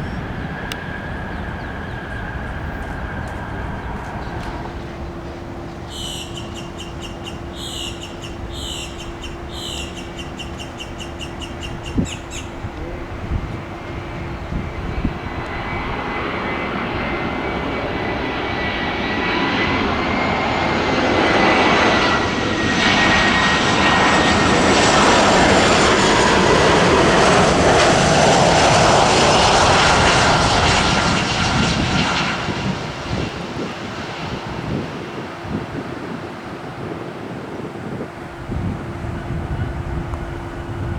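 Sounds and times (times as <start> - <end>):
jet airliner passing: 0.0 - 40.9.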